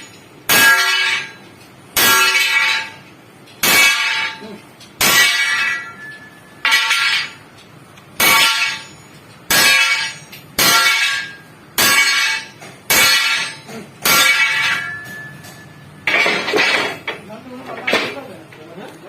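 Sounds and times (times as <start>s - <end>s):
hammer clanging on steel spring: 0.0s - 17.2s.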